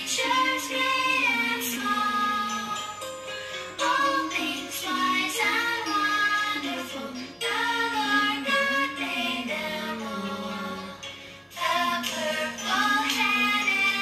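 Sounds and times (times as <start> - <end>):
musical accompaniment: 0.0 - 14.0
person singing: 0.0 - 14.0.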